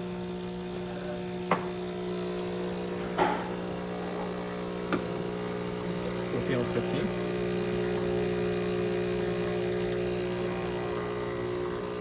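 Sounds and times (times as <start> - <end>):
coffee machine humming: 0.0 - 12.0.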